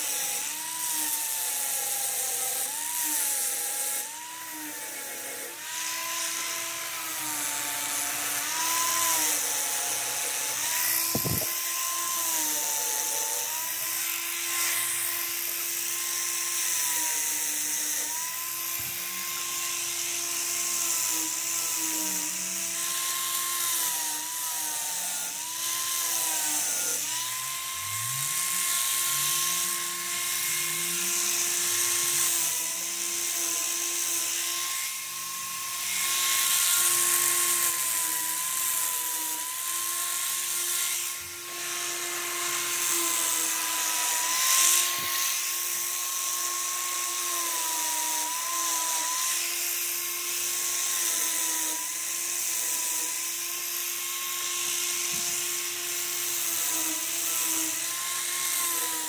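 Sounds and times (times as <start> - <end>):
grinder cutting metal: 0.0 - 59.0.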